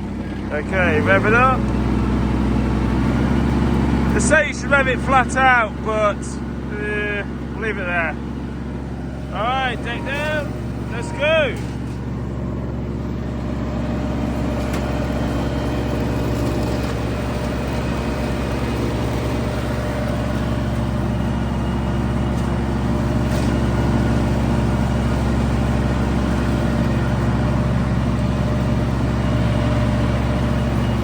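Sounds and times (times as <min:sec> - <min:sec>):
mower diesel engine running: 0:00.0 - 0:31.0.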